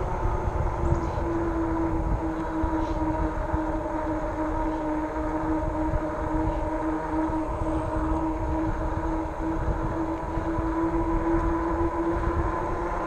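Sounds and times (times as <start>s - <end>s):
electric bike motor whine: 0.0s - 13.0s
wind rumble on microphone: 0.0s - 13.0s.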